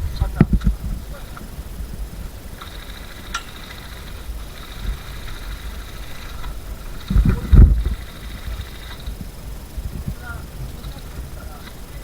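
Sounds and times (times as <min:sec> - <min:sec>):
low thumps: 0:00.0 - 0:11.8
low rumbling: 0:00.0 - 0:12.0.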